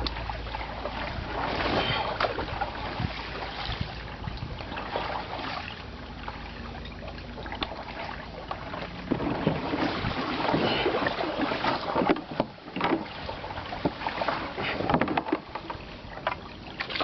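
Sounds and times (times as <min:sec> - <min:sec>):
paddle splashing in water: 0:00.0 - 0:17.0
wind rumble on microphone: 0:00.0 - 0:17.0.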